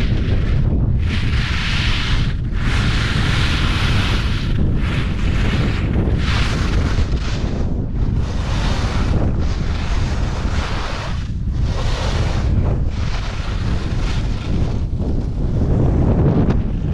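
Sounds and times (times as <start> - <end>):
skis scraping on snow: 0.0 - 16.9
wind buffeting microphone: 0.0 - 16.9.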